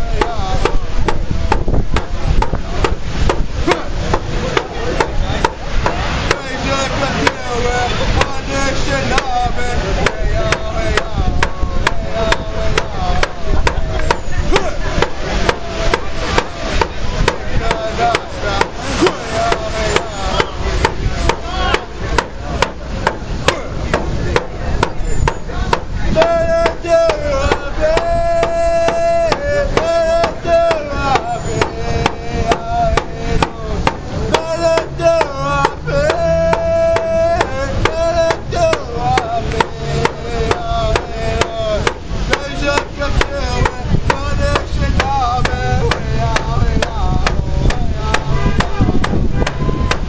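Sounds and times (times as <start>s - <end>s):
man singing in high voice: 0.0s - 50.0s.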